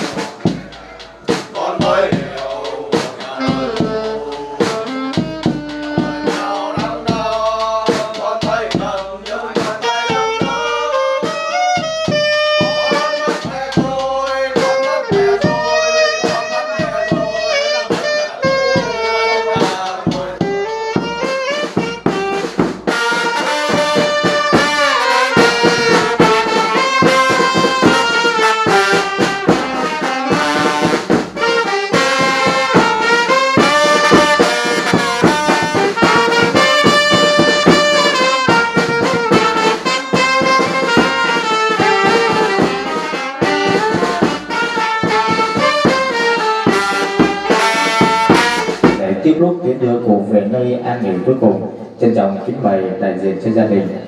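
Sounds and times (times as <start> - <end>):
steady drum beat: 0.0 - 50.1
horn melody: 0.0 - 51.9.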